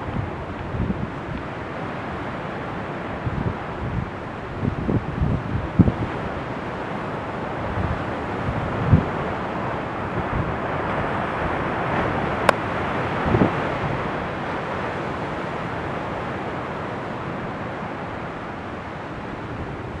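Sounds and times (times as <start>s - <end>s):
low gust of wind: 0.0s - 20.0s
surf breaking on shore: 0.0s - 20.0s
wind buffeting microphone: 0.0s - 20.0s.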